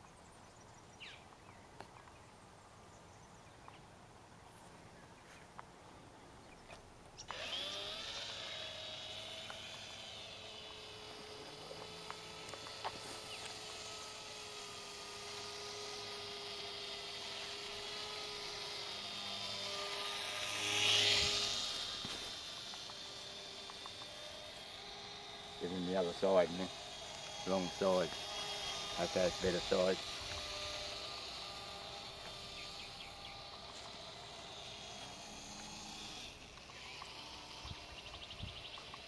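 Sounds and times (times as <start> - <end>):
small electric motor whine: 4.5 - 39.0.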